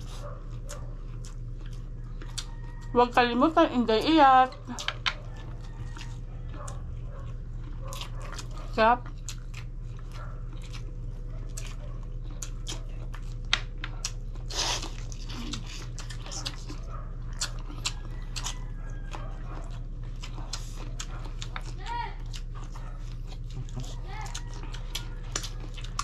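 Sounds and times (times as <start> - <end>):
low hum: 0.0 - 26.0
people chewing with wet smacks: 0.0 - 26.0.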